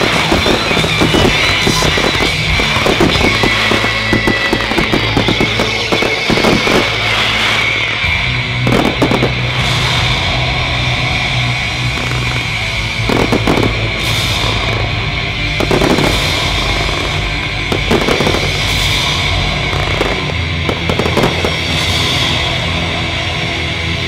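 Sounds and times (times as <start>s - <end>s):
fireworks booms and crackles: 0.0s - 23.6s
loud music with bass line: 0.0s - 24.0s.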